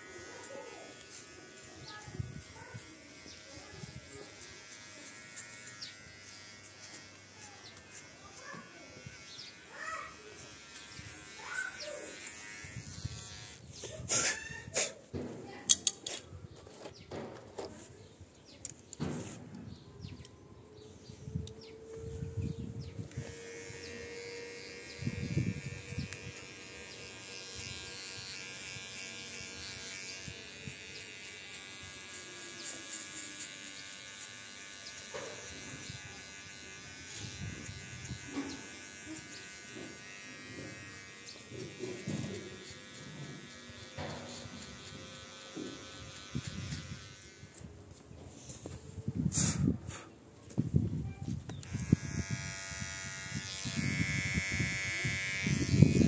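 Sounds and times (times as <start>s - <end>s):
electric hair clippers buzzing: 0.0s - 14.9s, 21.4s - 48.1s, 51.4s - 56.0s.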